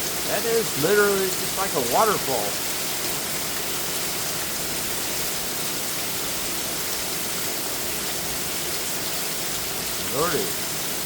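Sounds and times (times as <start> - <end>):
torrential rain pouring: 0.0 - 11.0.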